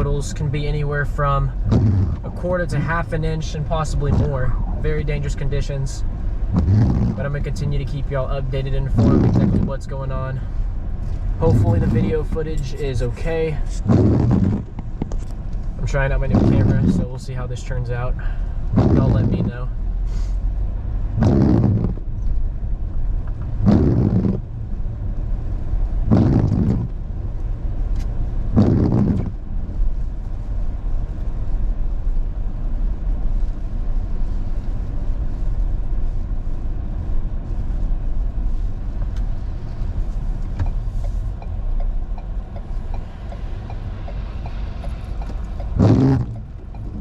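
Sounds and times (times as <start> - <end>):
engine and road rumble: 0.0 - 47.0.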